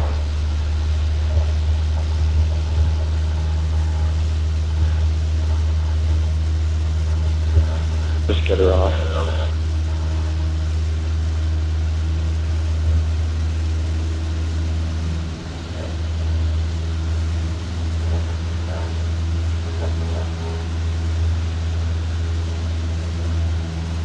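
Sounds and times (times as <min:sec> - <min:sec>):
light aircraft engine and propeller: 0:00.0 - 0:24.0.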